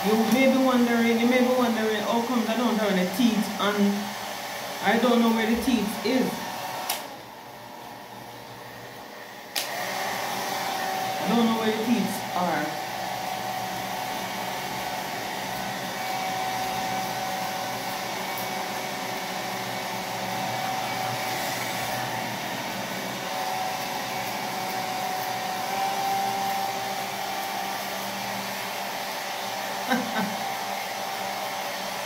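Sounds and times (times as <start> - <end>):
hair dryer blowing: 0.0 - 32.0.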